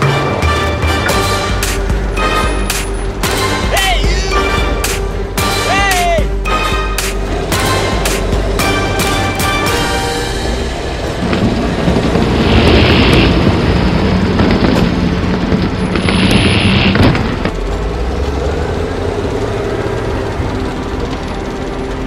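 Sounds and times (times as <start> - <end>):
rumbling vehicle noise: 0.0 - 22.0.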